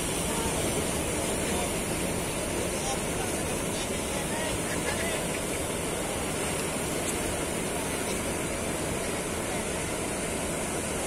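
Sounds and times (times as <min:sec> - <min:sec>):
ocean surf rushing up beach: 0:00.0 - 0:11.0.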